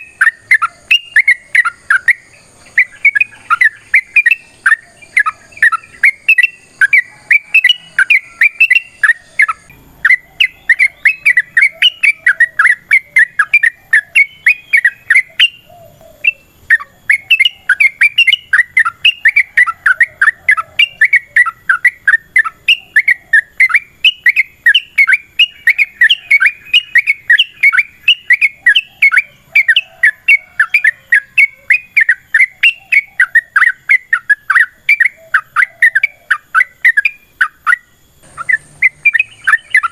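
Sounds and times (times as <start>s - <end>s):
bulbul singing bubbly chirps: 0.0s - 39.9s.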